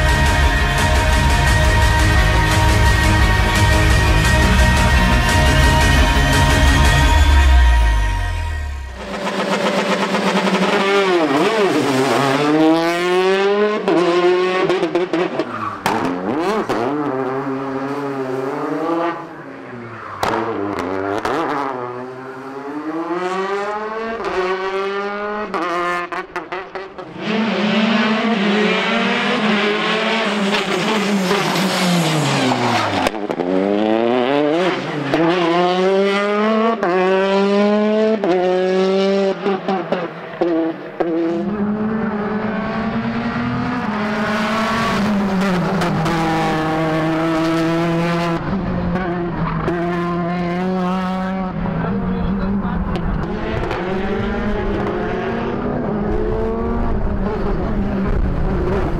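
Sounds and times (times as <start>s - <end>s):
rally car engine revving: 0.0s - 58.9s.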